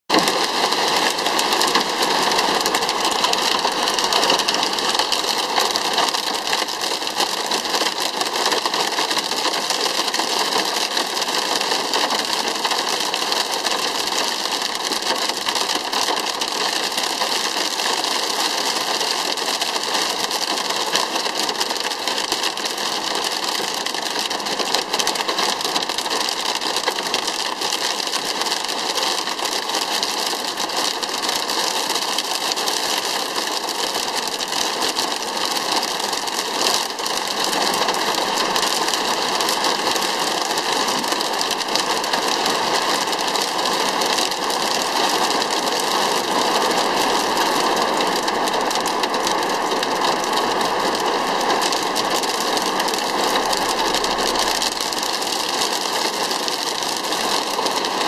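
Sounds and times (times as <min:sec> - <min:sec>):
heavy rain on car roof: 0:00.1 - 0:58.0.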